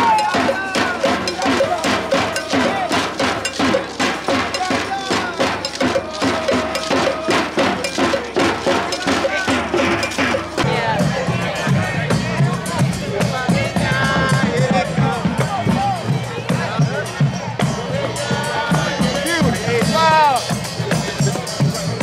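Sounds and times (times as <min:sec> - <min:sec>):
procession percussion fast beat: 0:00.0 - 0:22.0
voices chanting: 0:00.0 - 0:22.0.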